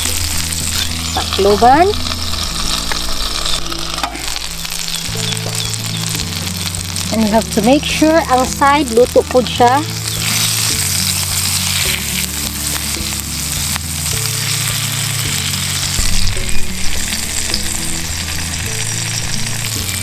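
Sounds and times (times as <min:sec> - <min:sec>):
background music with bass: 0:00.0 - 0:20.0
chicken sizzling in oil: 0:00.0 - 0:20.0.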